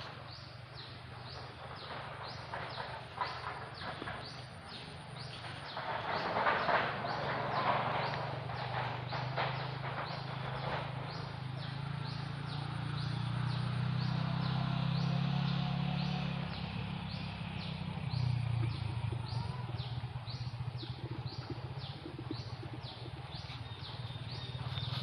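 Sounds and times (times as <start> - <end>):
bird chirping: 0.0 - 25.0
steady low hum: 0.0 - 25.0.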